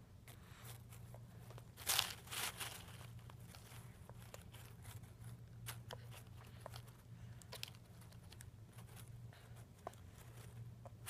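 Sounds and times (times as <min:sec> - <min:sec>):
steady low hum: 0:00.0 - 0:11.0
child chewing crackers: 0:00.2 - 0:11.0.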